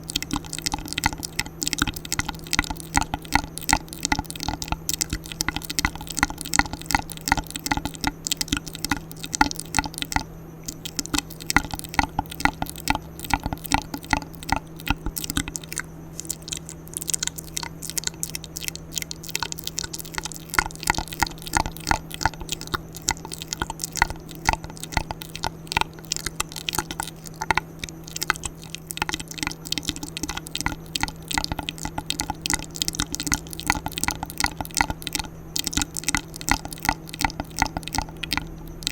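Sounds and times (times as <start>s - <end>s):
faint steady hum: 0.0s - 38.9s
wet mouth clicks and smacks: 0.0s - 38.9s.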